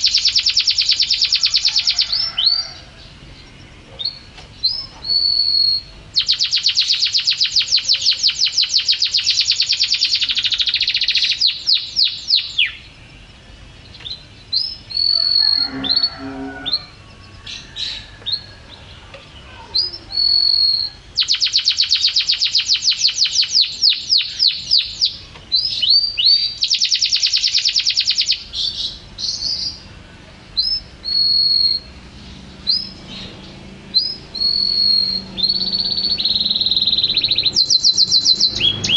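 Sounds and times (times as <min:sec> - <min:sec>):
canary chirps and whistles: 0:00.0 - 0:02.8, 0:04.0 - 0:12.9, 0:14.1 - 0:18.5, 0:19.5 - 0:29.8, 0:30.6 - 0:32.0, 0:32.6 - 0:38.9
canary trilling: 0:00.0 - 0:29.9, 0:30.5 - 0:38.9.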